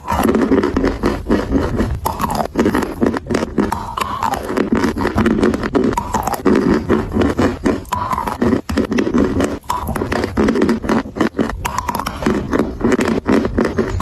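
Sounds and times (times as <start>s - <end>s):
crunching and chewing chalk: 0.0s - 14.0s.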